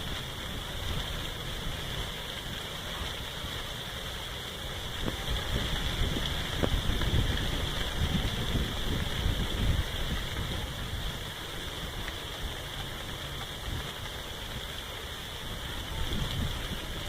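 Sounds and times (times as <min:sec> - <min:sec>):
wind buffeting microphone: 0:00.0 - 0:03.7, 0:04.6 - 0:17.0
wind rustling tree leaves: 0:00.0 - 0:17.0.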